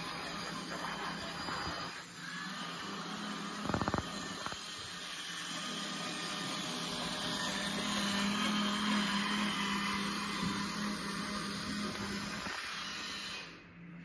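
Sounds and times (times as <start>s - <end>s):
small electric motor humming: 0.0s - 13.7s.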